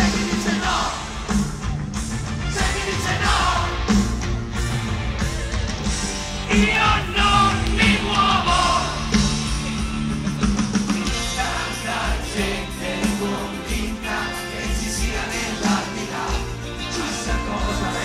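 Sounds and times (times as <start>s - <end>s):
bass guitar: 0.0s - 18.0s
drums: 0.0s - 18.0s
electric guitars: 0.0s - 18.0s.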